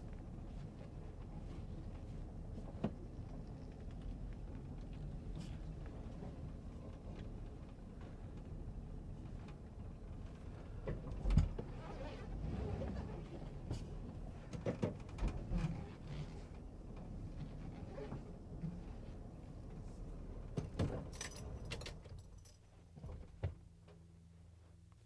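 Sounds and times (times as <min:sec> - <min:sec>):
van engine and road rumble: 0:00.0 - 0:25.0.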